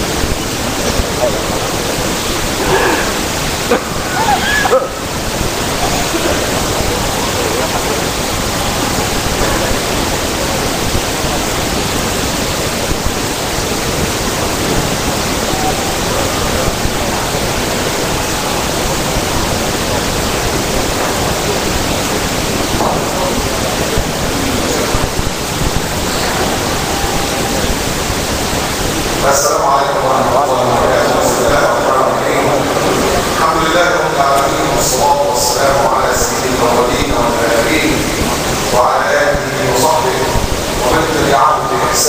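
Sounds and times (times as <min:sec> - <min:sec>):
recording hiss: 0:00.0 - 0:42.0.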